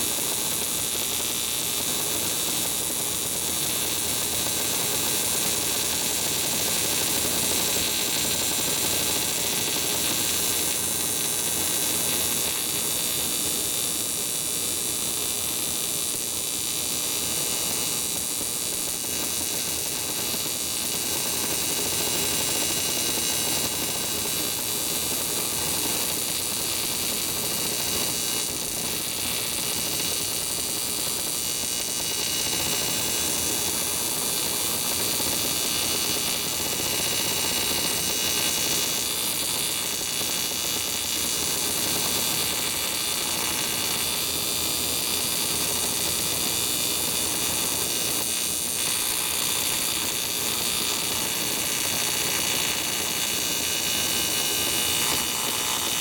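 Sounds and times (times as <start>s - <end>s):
welding arc hissing buzz: 0.0s - 56.0s.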